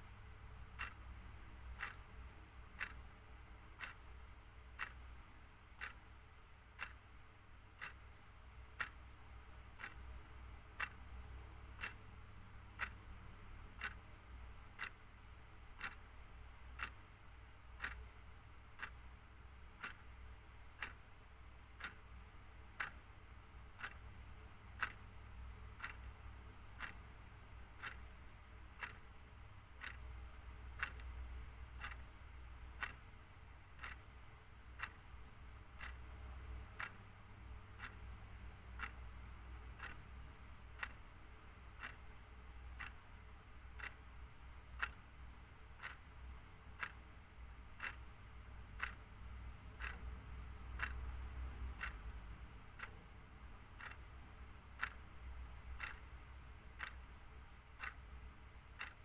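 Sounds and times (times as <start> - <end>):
faint low hum: 0.0 - 59.0
mechanical clock ticking: 0.1 - 59.0.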